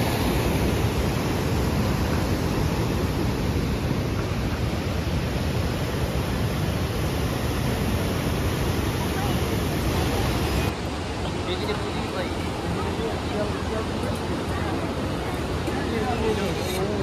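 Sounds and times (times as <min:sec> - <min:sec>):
river rushing over boulders: 0:00.0 - 0:17.0.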